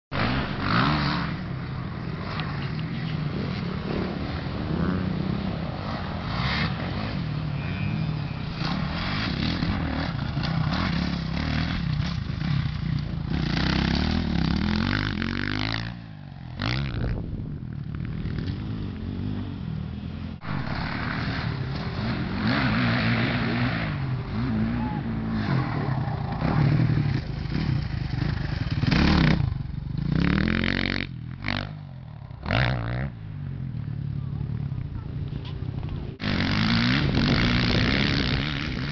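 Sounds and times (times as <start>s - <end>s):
dirt bike engines revving: 0.1s - 38.9s.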